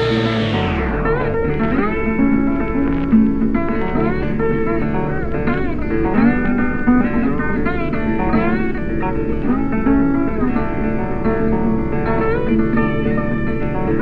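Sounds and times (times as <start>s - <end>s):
instrumental music with sliding guitar: 0.0s - 14.0s.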